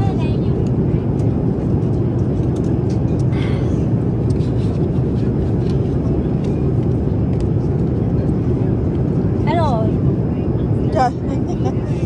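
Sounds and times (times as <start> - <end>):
low rumble of airliner engines: 0.0 - 12.0.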